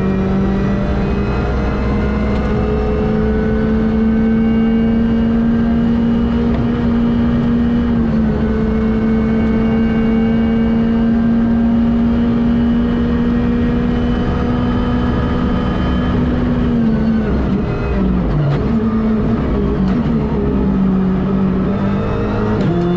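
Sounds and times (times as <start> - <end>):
rally car engine at high revs: 0.0 - 22.9.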